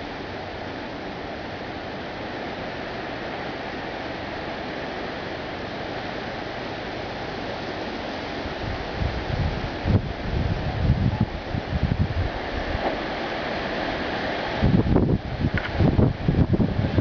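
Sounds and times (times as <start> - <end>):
storm rushing hiss: 0.0 - 17.0.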